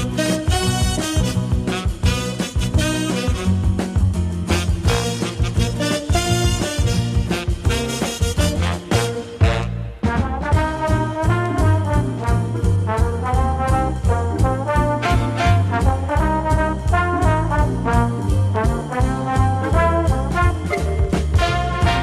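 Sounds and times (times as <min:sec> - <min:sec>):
big band brass playing swing: 0:00.0 - 0:22.0.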